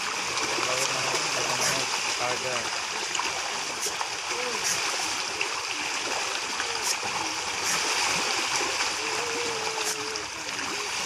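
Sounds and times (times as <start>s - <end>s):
fish splashing at water surface: 0.0s - 11.0s.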